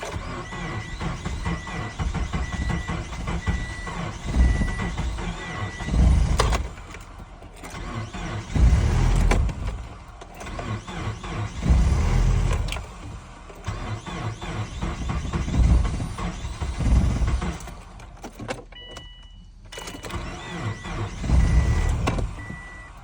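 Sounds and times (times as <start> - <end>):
car engine struggling to start: 0.0 - 23.0.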